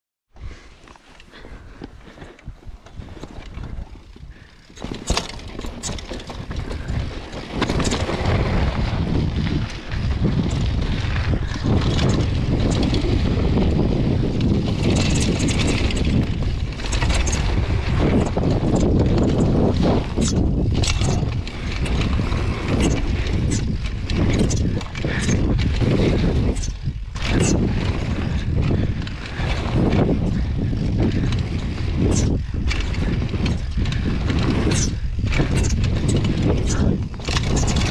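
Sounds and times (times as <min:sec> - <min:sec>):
tyres rolling on dirt trail: 0:00.4 - 0:37.9
bike clattering over bumps: 0:01.3 - 0:37.9
wind rumbling over microphone: 0:01.3 - 0:37.9.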